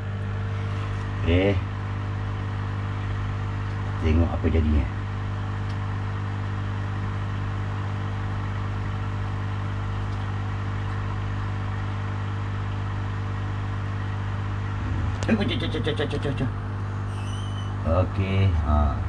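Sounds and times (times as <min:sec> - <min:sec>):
aquarium pump humming: 0:00.0 - 0:19.0.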